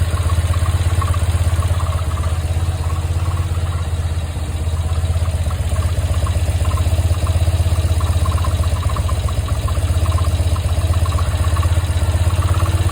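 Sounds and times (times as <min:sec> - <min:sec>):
light ticking: 0:00.0 - 0:12.9
motorcycle engine idling: 0:00.0 - 0:12.9.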